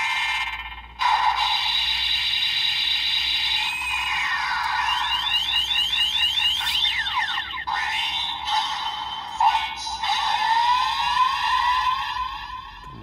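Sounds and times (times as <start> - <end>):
toy belt electronic sound effects: 0.0 - 13.0.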